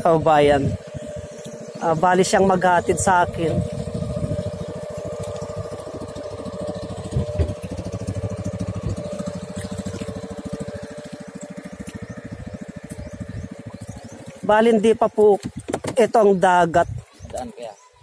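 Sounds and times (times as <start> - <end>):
small boat engine chugging: 0.0 - 18.0.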